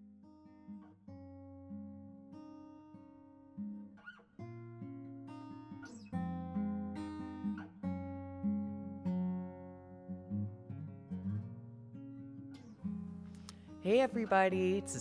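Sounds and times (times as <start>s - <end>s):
acoustic guitar strumming chords: 0.3s - 15.0s.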